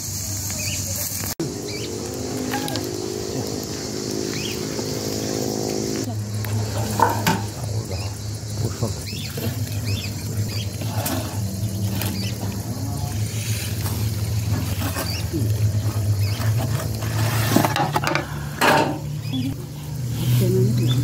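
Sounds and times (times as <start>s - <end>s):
steady low hum: 1.4s - 21.0s.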